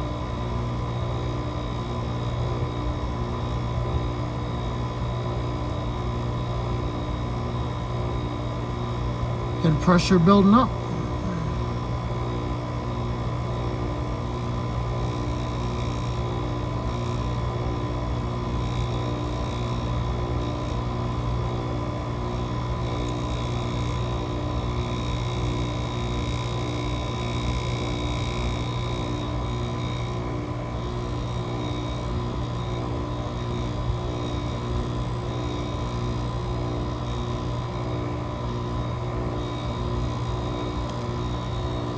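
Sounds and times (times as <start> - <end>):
air conditioner pulsing hum: 0.0 - 41.9.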